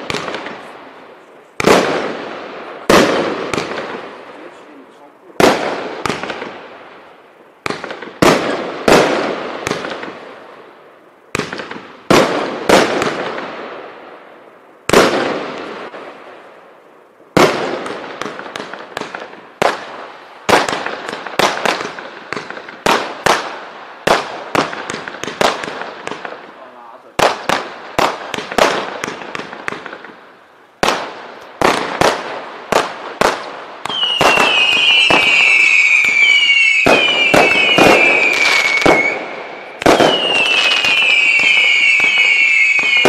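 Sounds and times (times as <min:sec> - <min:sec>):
firework bursts with crackle: 0:00.0 - 0:43.0.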